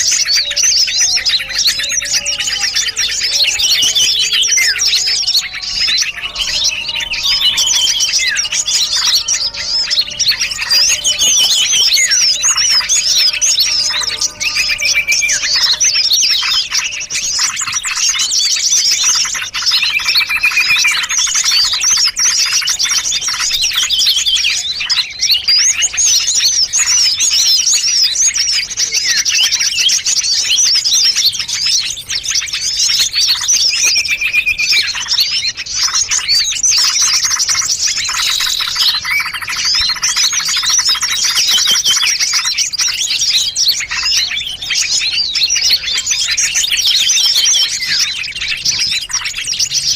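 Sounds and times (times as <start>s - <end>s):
small songbirds chirping and twittering: 0.0s - 49.9s.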